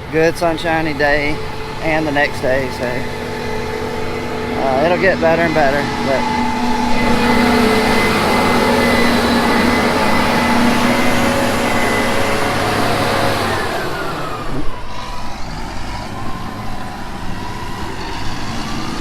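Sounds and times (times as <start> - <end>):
farm machinery running: 0.0 - 19.0
machine whines: 0.0 - 19.0.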